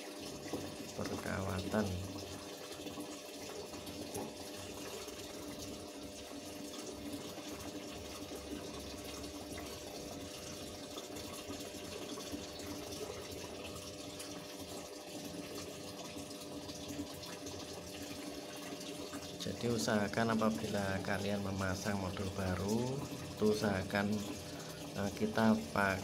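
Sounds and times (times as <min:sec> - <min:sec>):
water rushing into washing machine: 0:00.0 - 0:26.0
faint steady hum: 0:00.5 - 0:26.0.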